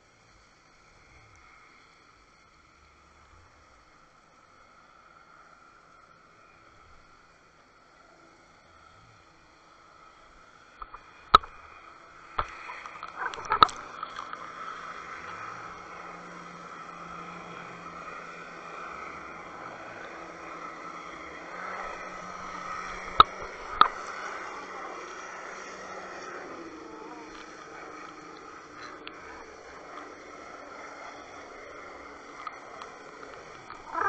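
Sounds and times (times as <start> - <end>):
faint hum: 0.0 - 34.0
underwater water rush: 0.0 - 34.0.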